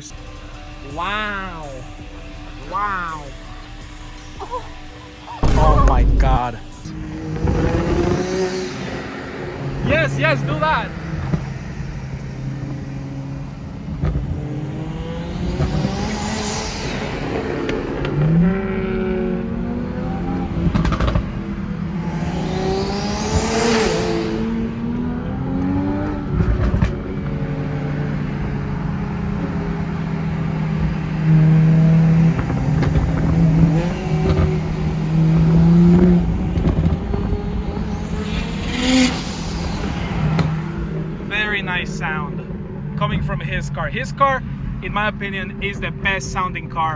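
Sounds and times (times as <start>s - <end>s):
high rising turbo whistle: 0.0s - 25.9s, 28.5s - 42.1s
turbocharged car engines revving: 0.0s - 46.9s.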